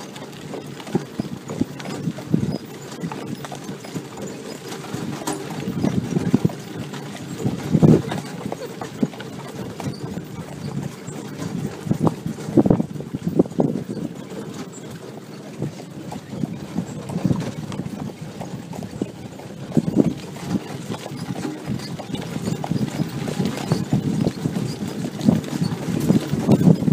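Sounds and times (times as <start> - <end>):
horse hooves clip-clopping: 0.0 - 26.9
carriage and harness rattling: 3.1 - 26.9.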